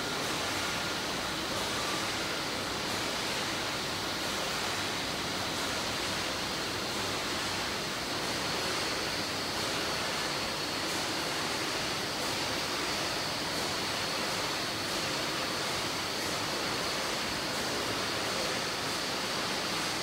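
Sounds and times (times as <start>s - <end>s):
faint high machine whine: 0.0s - 20.0s.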